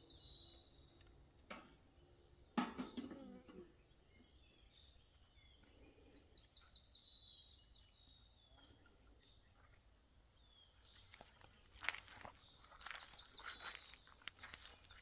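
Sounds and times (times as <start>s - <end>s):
faint bird chirps: 2.8s - 15.0s.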